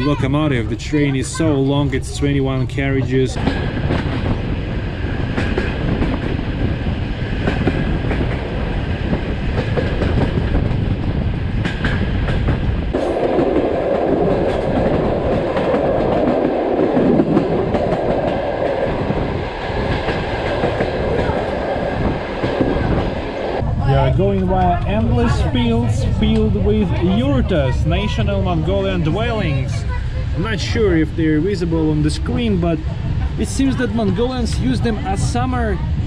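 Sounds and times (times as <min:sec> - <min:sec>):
train carriage rumbling: 0:00.0 - 0:36.0.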